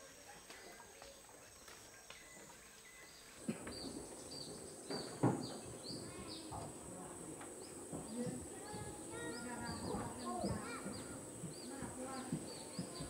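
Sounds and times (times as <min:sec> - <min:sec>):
bird chirping: 0:01.0 - 0:13.0.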